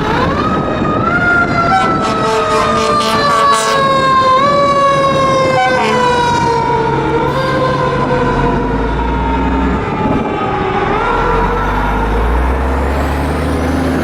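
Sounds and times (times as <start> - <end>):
deep truck engine rumble: 0.0 - 14.0
fire engine siren: 0.0 - 14.0.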